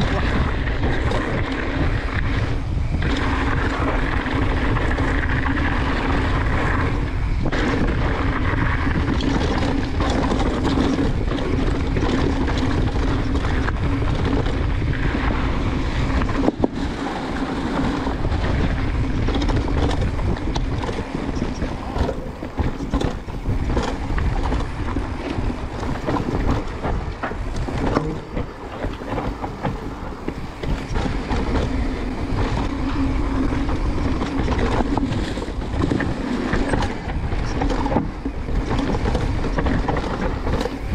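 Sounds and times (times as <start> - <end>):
bike rattling and knocking: 0.0 - 40.9
bike tyres rolling on dirt: 0.0 - 40.9
wind rushing over microphone: 0.0 - 40.9.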